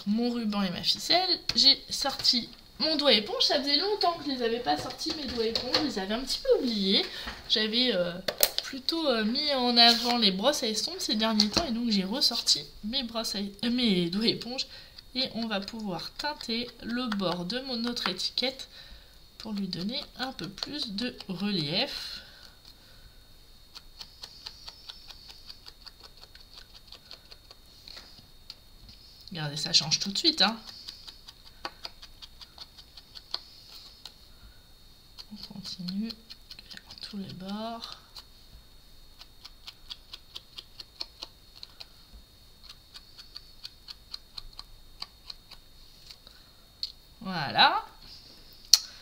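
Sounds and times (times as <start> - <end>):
faint high whine: 0.0 - 49.0.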